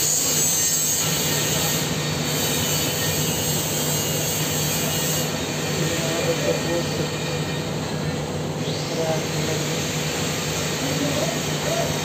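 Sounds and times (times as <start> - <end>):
welding arc hissing: 0.0 - 7.2, 8.8 - 12.0.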